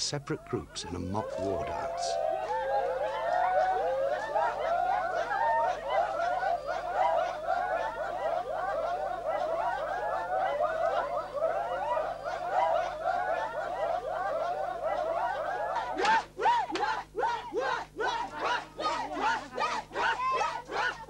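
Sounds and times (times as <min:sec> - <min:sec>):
men chanting and whooping: 0:00.0 - 0:21.0.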